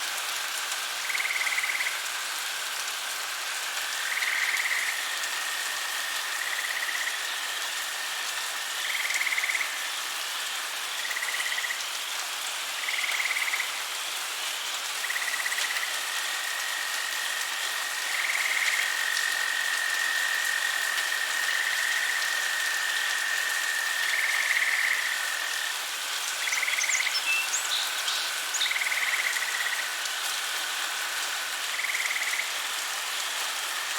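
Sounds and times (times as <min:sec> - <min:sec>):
night ambience hiss: 0:00.0 - 0:33.9
frogs calling: 0:01.0 - 0:02.1, 0:03.8 - 0:11.9, 0:12.8 - 0:13.8, 0:14.9 - 0:33.9.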